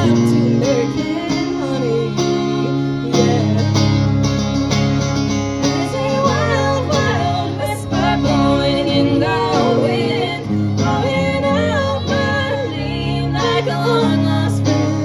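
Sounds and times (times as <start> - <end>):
person singing: 0.0 - 4.1, 5.7 - 15.0
band playing country music: 0.0 - 15.0
guitar: 0.0 - 15.0.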